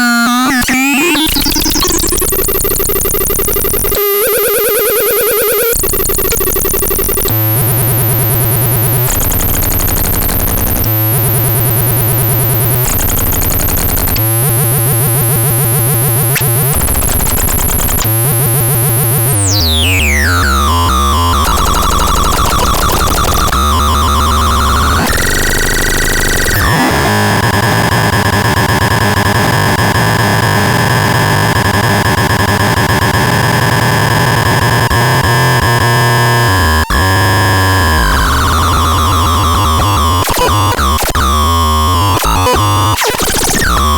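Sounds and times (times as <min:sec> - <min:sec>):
harsh synthesizer tones: 0:00.0 - 0:43.9.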